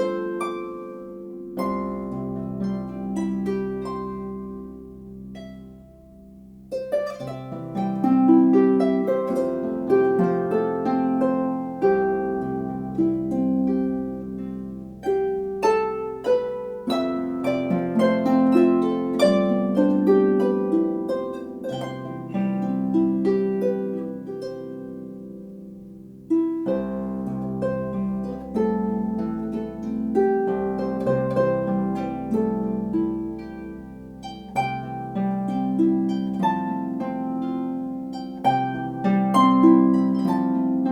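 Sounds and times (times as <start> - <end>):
harp playing: 0.0 - 40.9.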